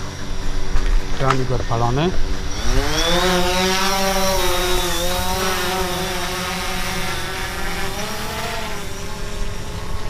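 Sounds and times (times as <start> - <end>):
drone propellers buzzing whine: 0.0 - 10.0.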